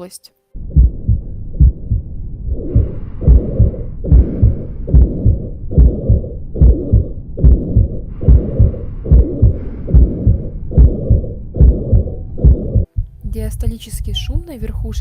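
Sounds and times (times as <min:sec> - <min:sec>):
heart murmur: 0:00.6 - 0:15.0
heartbeat: 0:00.6 - 0:15.0.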